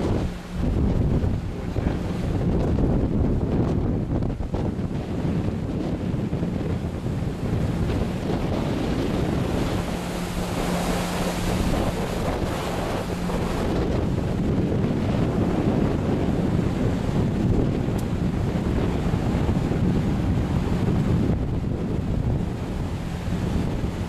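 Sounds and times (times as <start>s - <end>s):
sea surf breaking: 0.0s - 24.0s
wind buffeting microphone: 0.0s - 24.0s.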